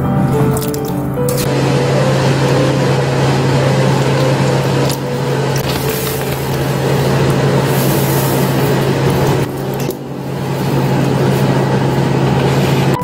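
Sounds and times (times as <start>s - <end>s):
kitchen appliance hum: 0.0s - 13.0s.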